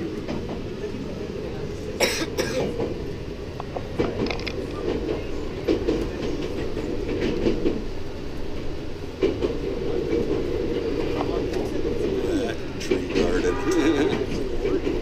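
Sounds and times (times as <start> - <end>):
train rumbling on track: 0.0 - 15.0
train wheels clacking: 2.4 - 15.0.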